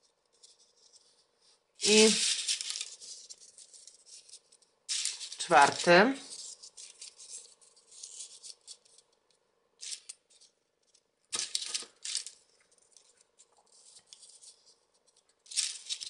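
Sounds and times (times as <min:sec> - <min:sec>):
paper rustling and crinkling: 0:00.3 - 0:09.2, 0:09.8 - 0:16.0.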